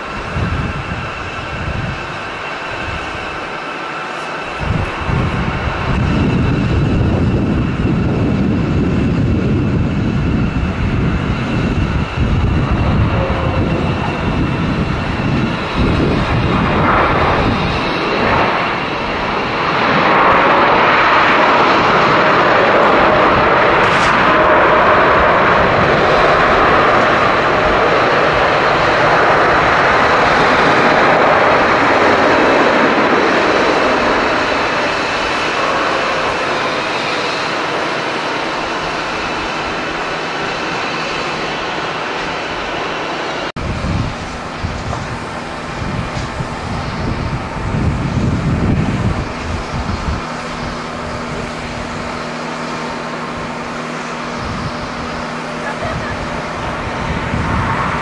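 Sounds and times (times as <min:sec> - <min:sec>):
jet engines whining: 0:00.0 - 0:58.0
jet reverse thrust roar: 0:00.0 - 0:58.0.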